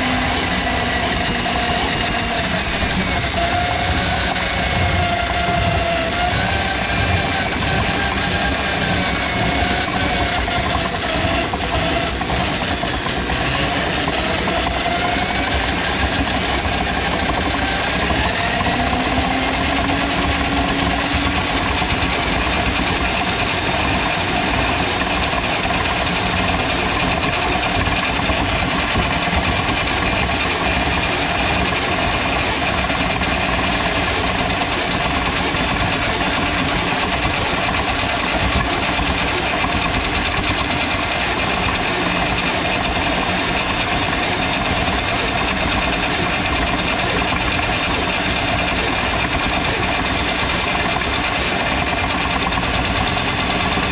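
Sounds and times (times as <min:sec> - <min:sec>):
drain auger running: 0:00.0 - 0:53.9.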